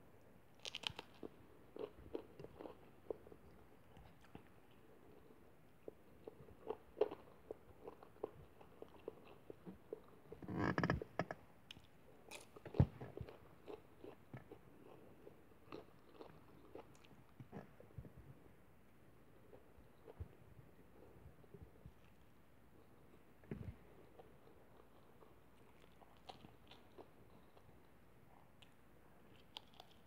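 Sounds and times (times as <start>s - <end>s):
person chewing food: 0.6s - 18.0s, 19.3s - 30.0s.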